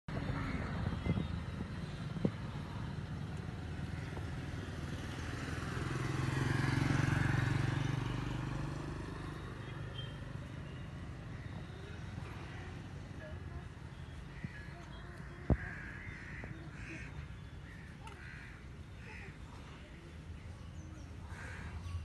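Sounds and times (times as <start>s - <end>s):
motor vehicle passing: 0.1s - 22.0s.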